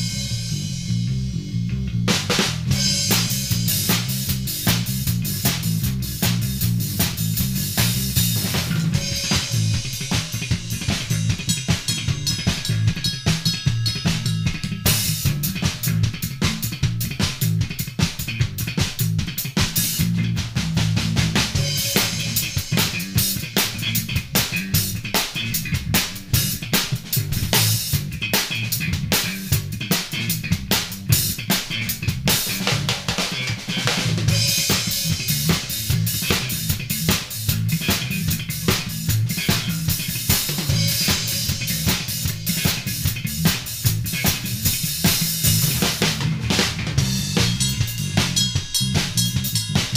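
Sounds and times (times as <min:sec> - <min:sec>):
bass guitar line: 0:00.0 - 0:49.9
drum kit playing: 0:00.0 - 0:49.9.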